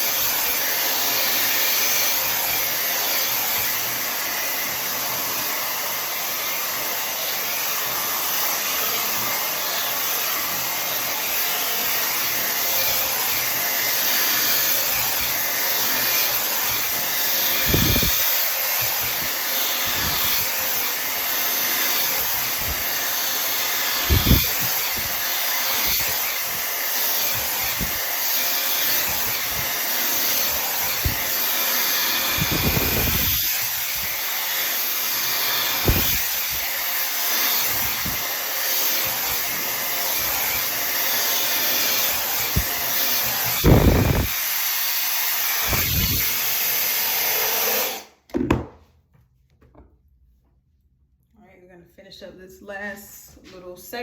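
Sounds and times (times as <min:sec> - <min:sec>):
hair dryer running: 0:00.0 - 0:48.6.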